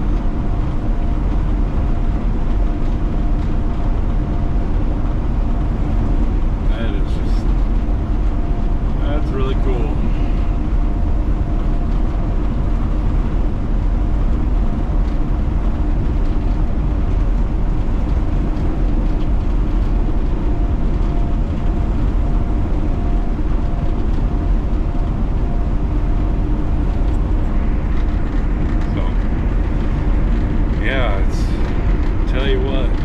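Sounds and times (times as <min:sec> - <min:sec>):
faint steady drone: 0:00.0 - 0:33.0
truck engine and road rumble: 0:00.0 - 0:33.0.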